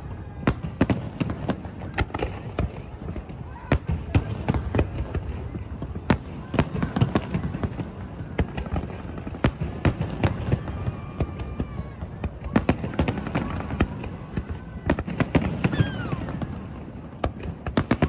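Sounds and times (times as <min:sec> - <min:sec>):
fireworks bangs: 0:00.1 - 0:18.0.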